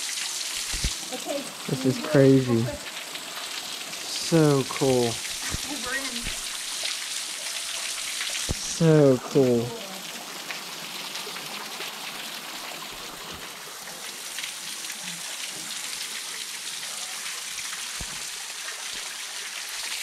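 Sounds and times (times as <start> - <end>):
waterfall spattering on rocks: 0.0 - 12.0, 12.8 - 20.0.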